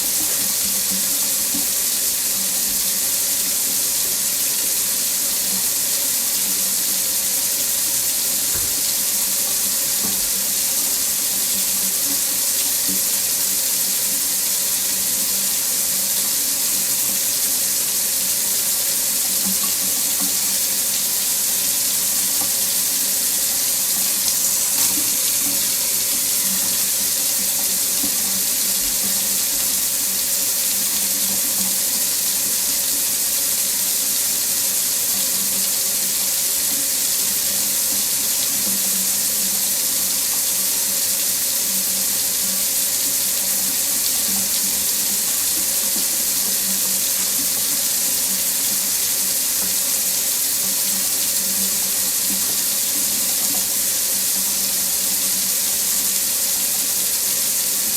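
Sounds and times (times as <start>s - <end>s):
tap running into a sink: 0.0s - 33.7s, 35.1s - 55.5s.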